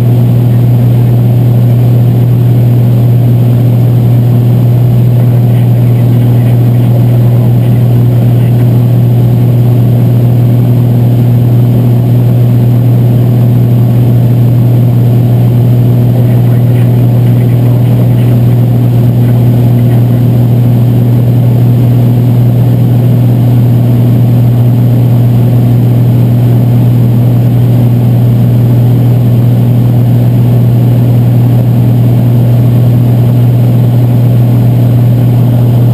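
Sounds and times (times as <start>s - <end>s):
airplane engine droning in cockpit: 0.0s - 35.9s.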